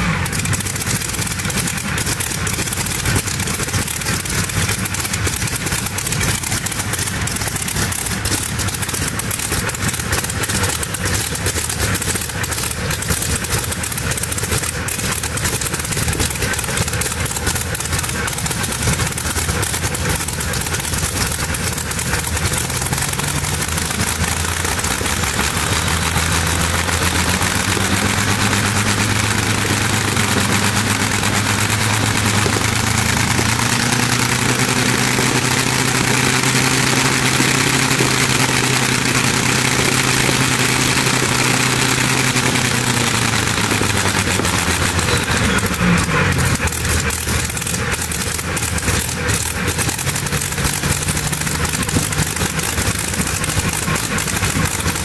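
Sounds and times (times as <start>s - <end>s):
aero engine idling: 0.0s - 55.0s.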